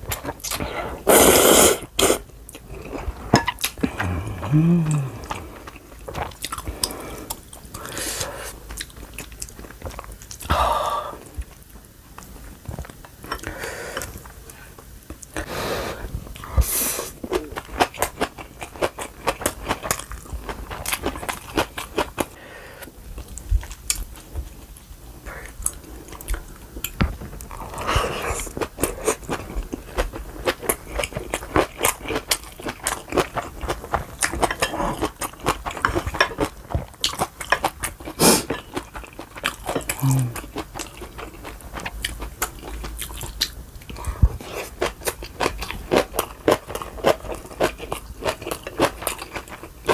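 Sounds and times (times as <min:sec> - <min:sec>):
person chewing crunchy food: 0:00.0 - 0:10.5, 0:16.3 - 0:22.4, 0:25.4 - 0:49.9.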